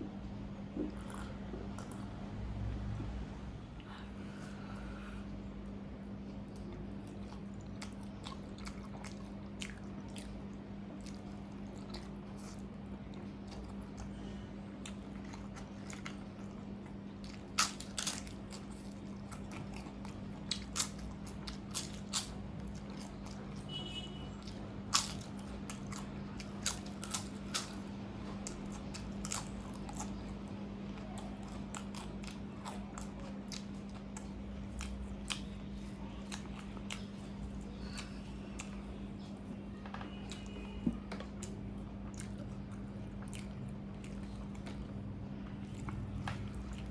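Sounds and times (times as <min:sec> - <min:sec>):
steady low hum: 0:00.0 - 0:46.9
crunchy food chewing: 0:00.7 - 0:02.2, 0:03.8 - 0:46.9.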